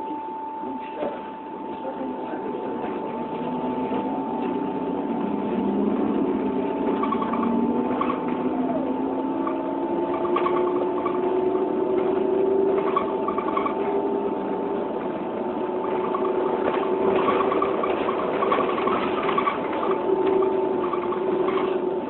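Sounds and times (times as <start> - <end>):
machine hum with high whine: 0.0 - 22.0
rough rattling noise: 2.6 - 22.0.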